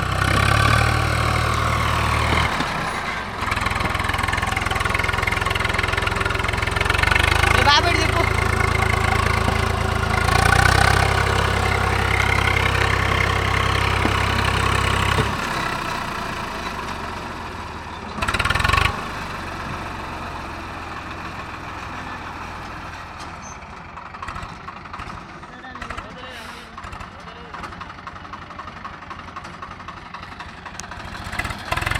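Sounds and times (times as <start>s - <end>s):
tractor diesel engine working hard: 0.0s - 31.9s.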